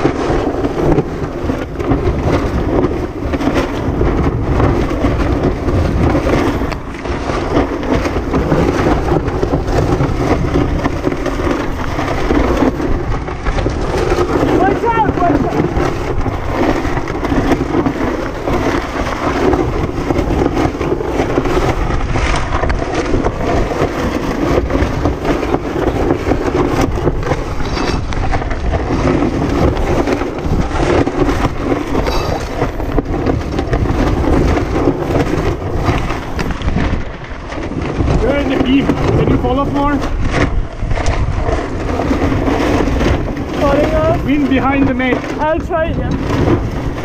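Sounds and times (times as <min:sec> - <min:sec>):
gusty wind buffeting microphone: 0:00.0 - 0:47.0
water rushing along hull: 0:00.0 - 0:47.0.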